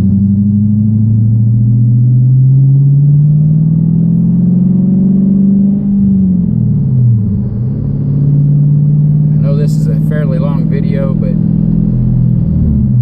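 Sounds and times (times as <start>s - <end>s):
car exhaust note while driving: 0.0s - 13.0s.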